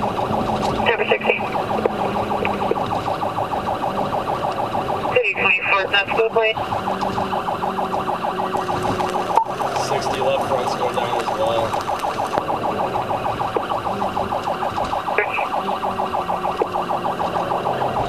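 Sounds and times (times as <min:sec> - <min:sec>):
police siren pulsing: 0:00.0 - 0:18.0.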